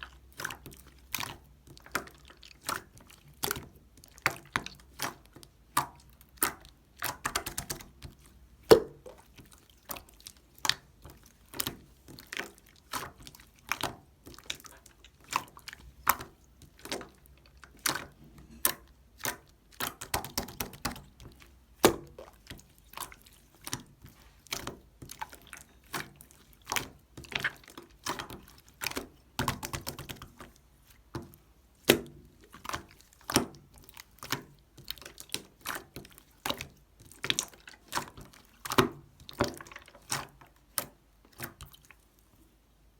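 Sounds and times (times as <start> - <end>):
slime clicking and squishing: 0.0 - 42.2.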